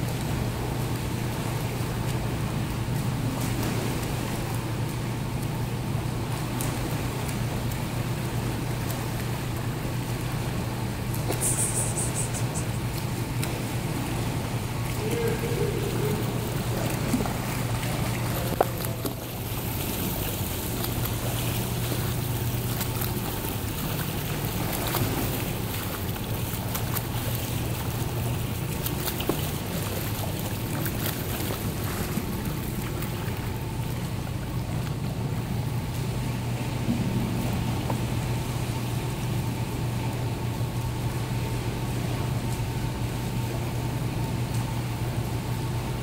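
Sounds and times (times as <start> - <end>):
swimmers splashing water: 0.0 - 45.9
steady low hum: 0.0 - 46.0.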